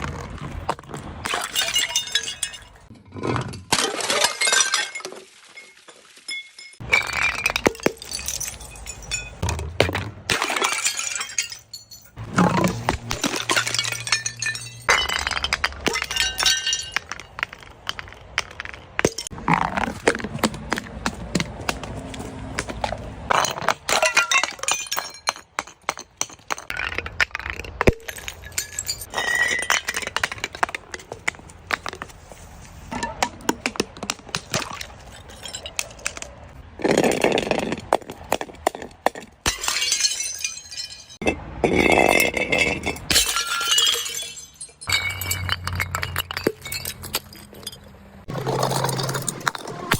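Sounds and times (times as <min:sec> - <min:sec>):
glass bottles smashing: 0:01.2 - 0:20.9, 0:23.3 - 0:31.9, 0:34.3 - 0:49.9
glass pieces clinking: 0:01.3 - 0:02.9, 0:04.1 - 0:09.6, 0:10.3 - 0:19.7, 0:23.3 - 0:32.0, 0:34.5 - 0:49.9.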